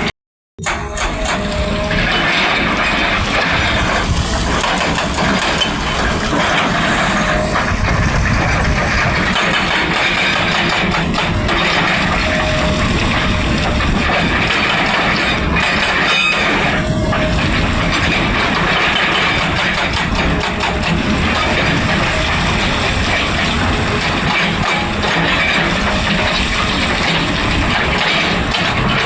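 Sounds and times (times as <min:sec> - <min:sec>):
excavator engine under load: 0:00.0 - 0:29.0.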